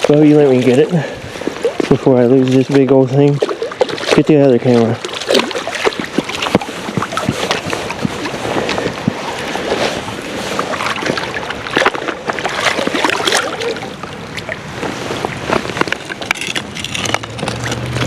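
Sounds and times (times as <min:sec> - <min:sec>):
fish splashing in water: 0:00.0 - 0:18.0.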